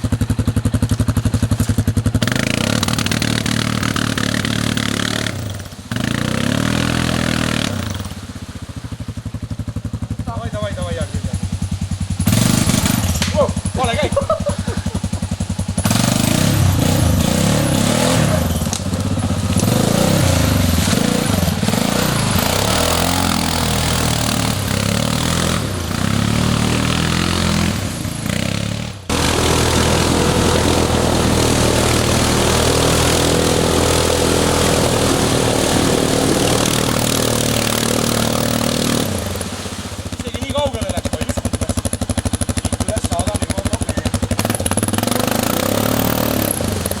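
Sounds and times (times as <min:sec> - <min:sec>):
atv engine revving: 0:00.0 - 0:47.0.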